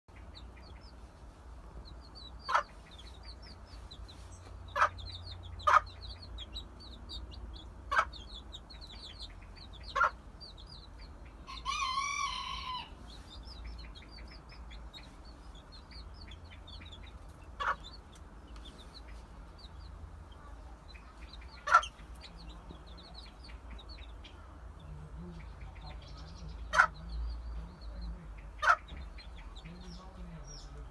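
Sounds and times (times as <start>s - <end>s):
chicks peeping: 0.1s - 30.9s
hen clucking: 0.1s - 30.9s.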